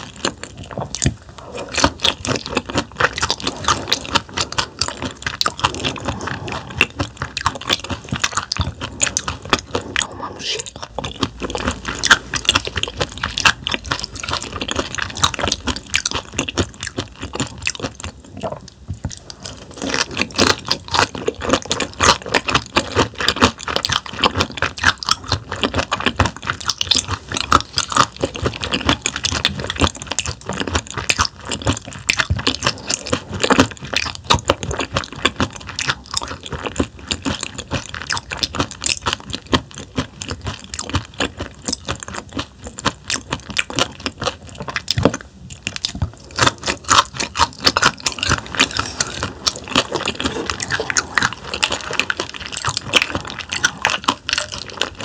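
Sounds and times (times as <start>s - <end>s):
crisp wet chewing crunches: 0.0s - 55.0s.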